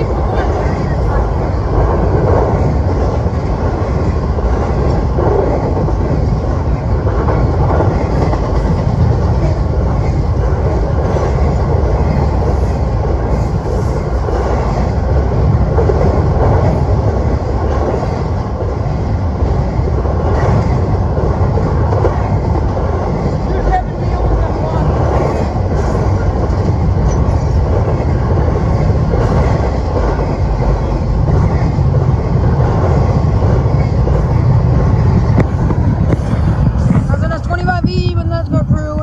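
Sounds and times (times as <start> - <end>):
freight train wheels rumbling on rail: 0.0 - 39.0.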